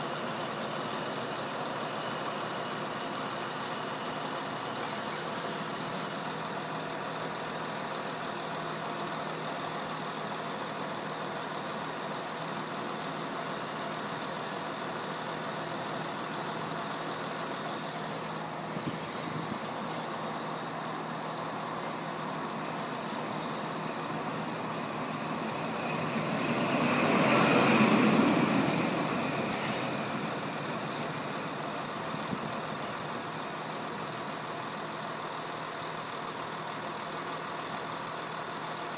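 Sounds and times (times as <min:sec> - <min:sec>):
diesel train engine drone: 0:00.0 - 0:38.9
train coaches rolling by: 0:00.0 - 0:38.9.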